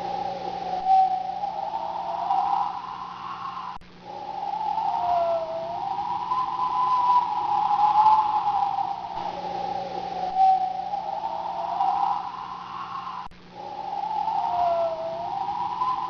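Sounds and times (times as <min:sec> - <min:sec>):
steady hiss: 0:00.0 - 0:16.0
storm wind whistling: 0:00.0 - 0:16.0.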